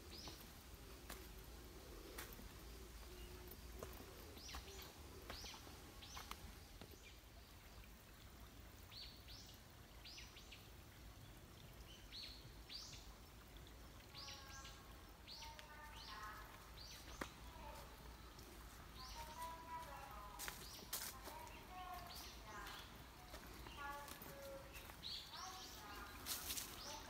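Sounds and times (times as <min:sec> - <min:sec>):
small birds chirping: 0:00.0 - 0:07.8, 0:11.2 - 0:27.0.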